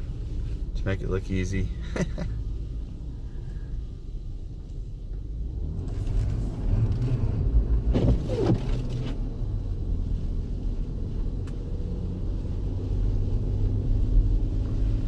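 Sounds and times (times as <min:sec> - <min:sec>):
engine and tyres rumbling: 0:00.0 - 0:15.0.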